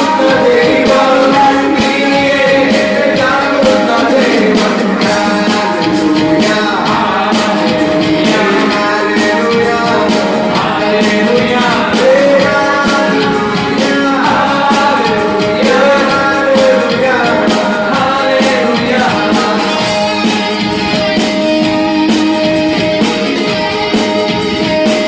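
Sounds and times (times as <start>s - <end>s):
drums with a steady beat: 0.0s - 25.0s
keyboard: 0.0s - 25.0s
person singing: 0.0s - 25.0s.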